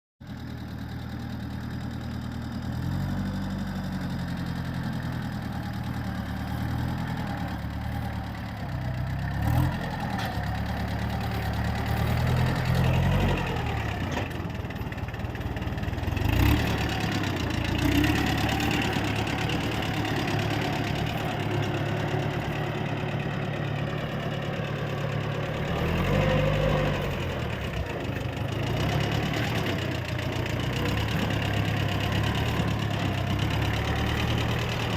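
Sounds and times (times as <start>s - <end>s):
tractor engine revving: 1.7s - 34.9s.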